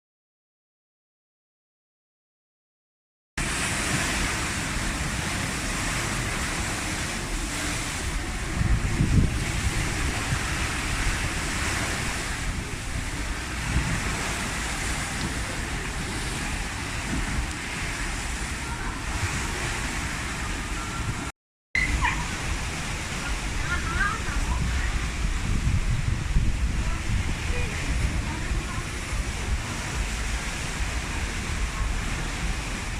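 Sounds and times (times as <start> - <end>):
big waves breaking: 3.4 - 32.9
strong wind buffeting microphone: 3.4 - 32.9.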